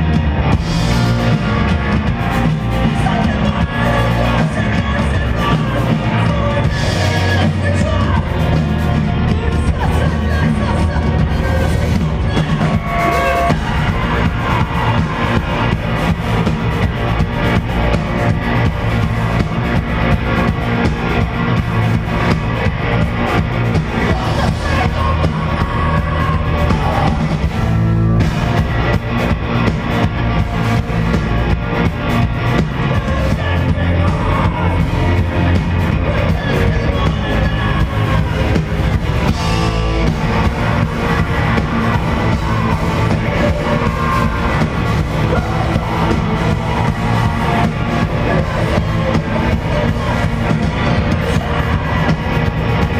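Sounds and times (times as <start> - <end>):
bass guitar: 0.0 - 52.9
distorted electric guitars: 0.0 - 52.9
pounding drum kit: 0.0 - 52.9
shouted vocals: 2.3 - 28.9, 32.4 - 52.9.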